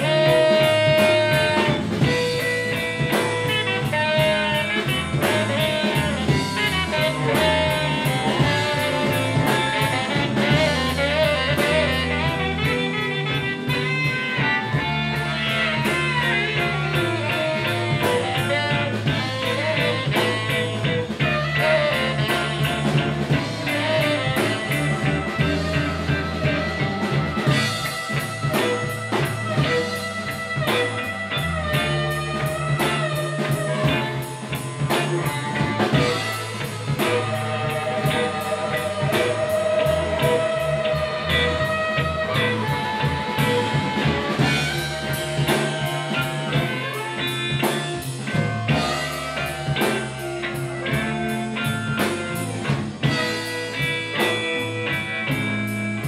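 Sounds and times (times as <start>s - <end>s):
bass: 0.0s - 56.0s
drum kit: 0.0s - 56.0s
electric guitar: 0.0s - 56.0s.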